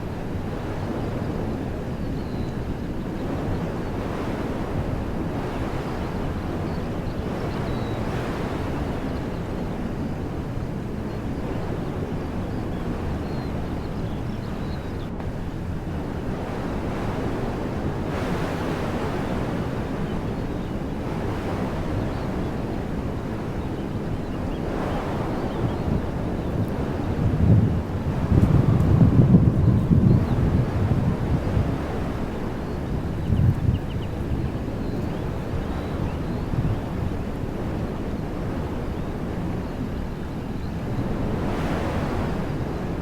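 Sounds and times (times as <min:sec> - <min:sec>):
wind through trees: 0:00.0 - 0:43.0.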